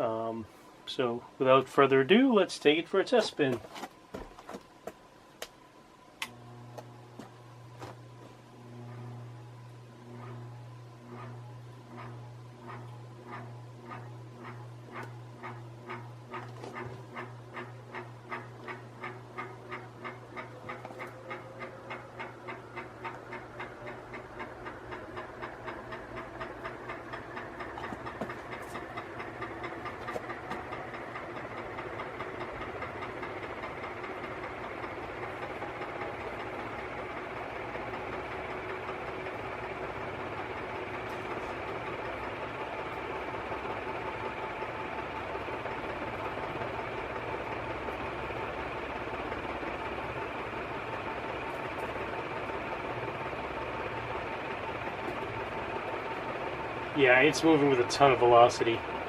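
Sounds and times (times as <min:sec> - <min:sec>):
ceiling fan spinning up: 0:00.0 - 0:59.0.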